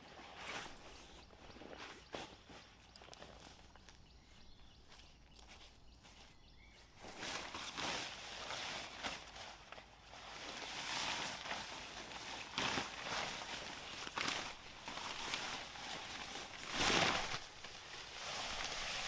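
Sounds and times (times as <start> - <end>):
crunching and rustling of leaves: 0.0 - 19.0.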